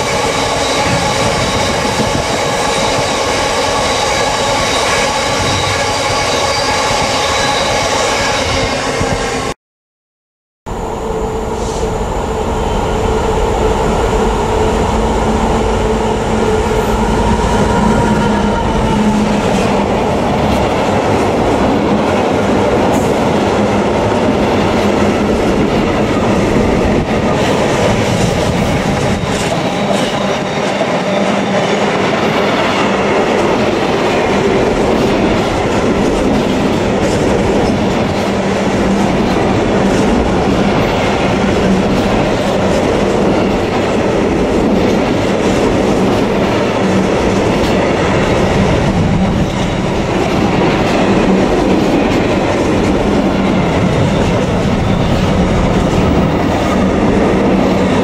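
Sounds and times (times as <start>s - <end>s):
train wheels rumbling and clattering: 0.0s - 9.4s, 11.8s - 58.0s.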